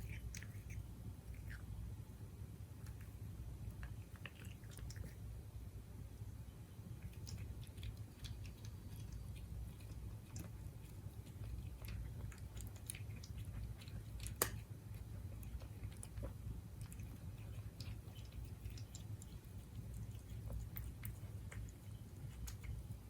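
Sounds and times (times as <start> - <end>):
cat chewing food: 0.0 - 5.4, 6.8 - 23.0.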